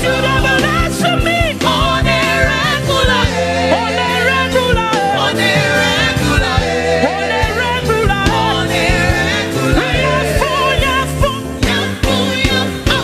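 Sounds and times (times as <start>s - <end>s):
live gospel band music: 0.0s - 13.0s.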